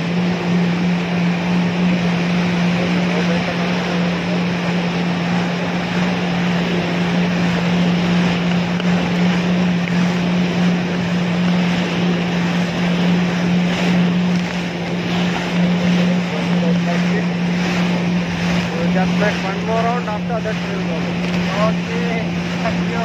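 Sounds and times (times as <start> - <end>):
jet ski engine hum: 0.0 - 23.0
water spray rushing: 0.0 - 23.0
wind buffeting microphone: 0.0 - 23.0.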